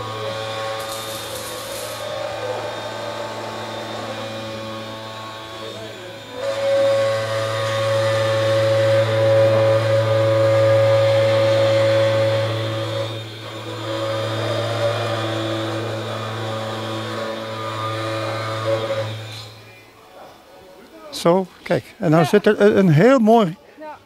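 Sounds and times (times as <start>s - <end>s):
milling machine whining: 0.0s - 19.9s.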